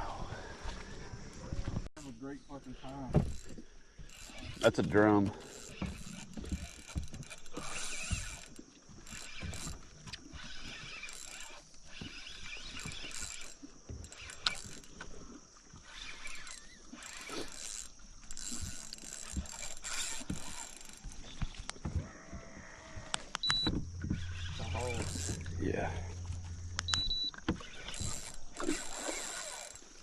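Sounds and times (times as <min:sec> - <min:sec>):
fishing reel whirring and clicking: 0:02.0 - 0:21.9, 0:23.0 - 0:30.0.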